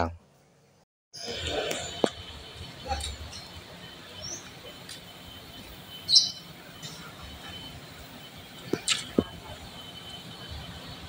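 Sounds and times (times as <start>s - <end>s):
outdoor background noise: 0.0s - 11.0s
birds chirping: 1.2s - 11.0s.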